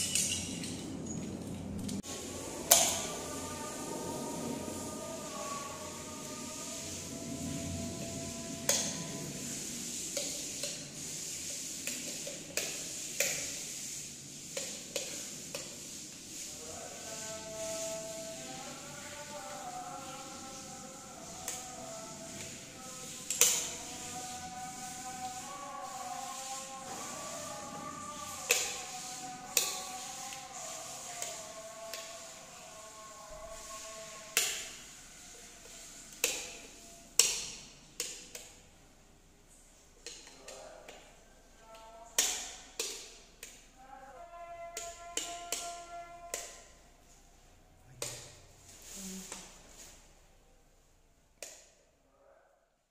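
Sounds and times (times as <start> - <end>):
steady hiss: 2.0 - 50.5.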